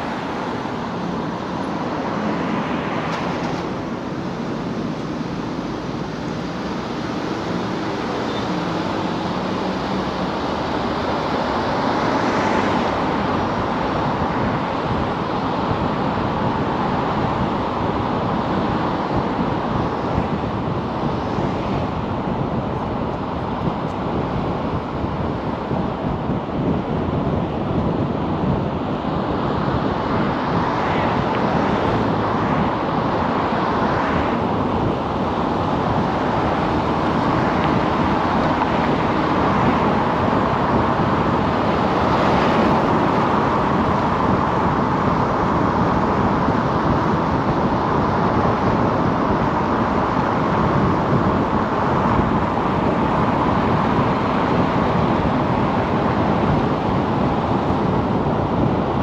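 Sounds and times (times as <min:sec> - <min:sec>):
car road noise: 0:00.0 - 0:59.0.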